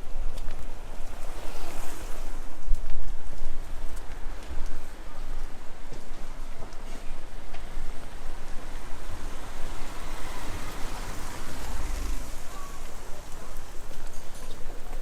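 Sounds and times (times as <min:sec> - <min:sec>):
rain on pavement: 0:00.1 - 0:15.0.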